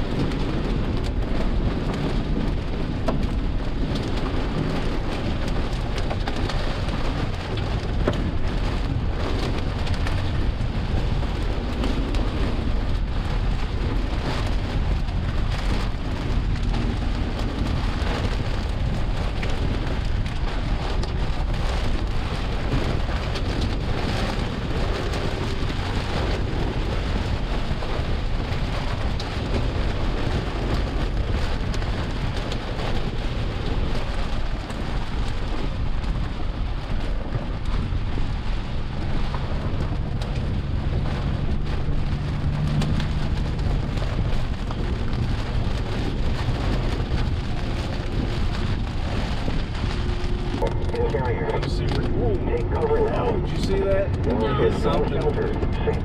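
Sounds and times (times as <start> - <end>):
rain hissing: 0.0 - 56.0
raindrops hitting a hard surface: 0.0 - 56.0.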